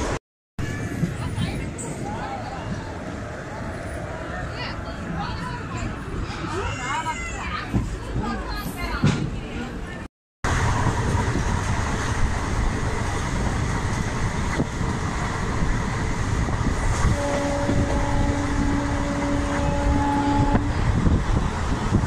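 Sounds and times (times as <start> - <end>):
train running at speed: 0.0 - 22.0.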